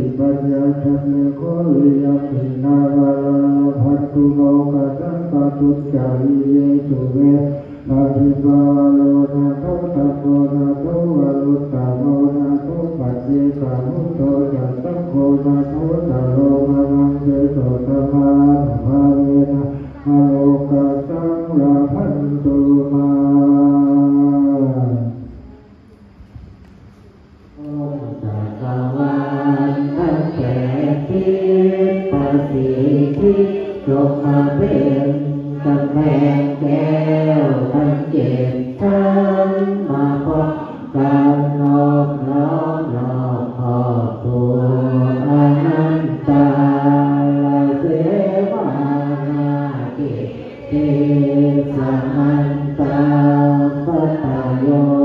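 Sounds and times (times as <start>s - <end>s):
voices chanting prayers: 0.0s - 26.6s, 27.2s - 55.0s.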